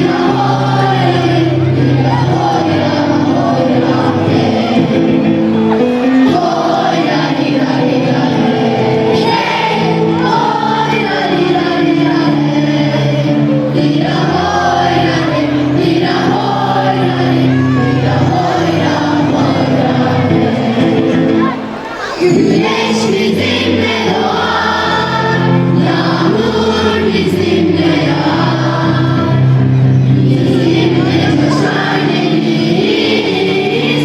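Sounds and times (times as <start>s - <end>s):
children's choir singing: 0.0s - 34.0s
instrumental backing music: 0.0s - 34.0s.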